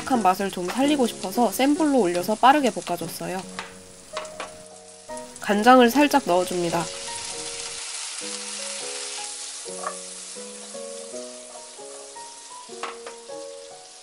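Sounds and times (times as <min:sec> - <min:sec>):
food sizzling in a frying pan: 0:00.0 - 0:14.0
soft background melody: 0:00.0 - 0:14.0.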